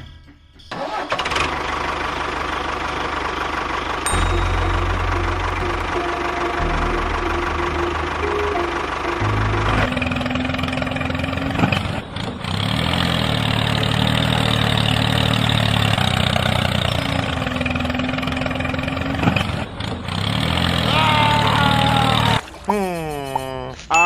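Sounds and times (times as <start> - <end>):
engine running: 0.7 - 23.6.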